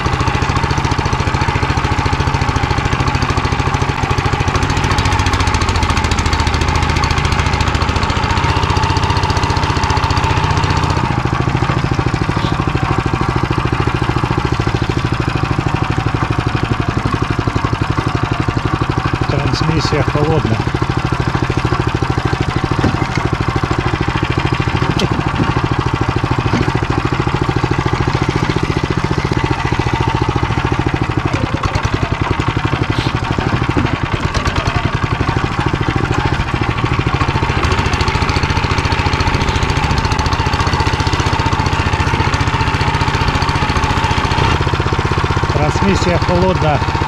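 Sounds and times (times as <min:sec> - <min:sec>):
tractor engine running under load: 0:00.0 - 0:47.0.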